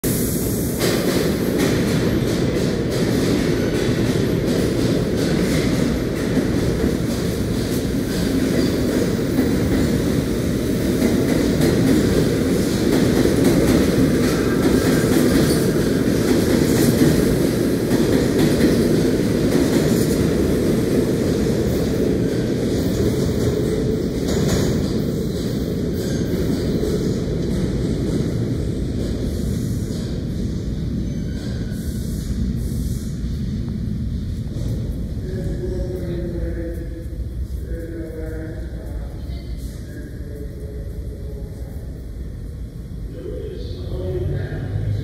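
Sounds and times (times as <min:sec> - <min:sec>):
rail clickety-clack: 0:00.0 - 0:44.1
subway train rumbling: 0:00.0 - 0:45.0.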